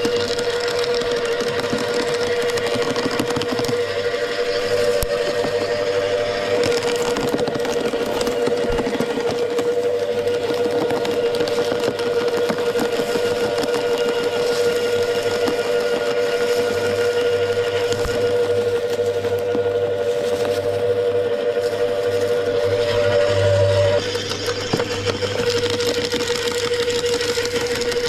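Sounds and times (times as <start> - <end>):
branches crackling and splintering: 0.0 - 28.0
wood chipper motor humming: 0.0 - 28.0.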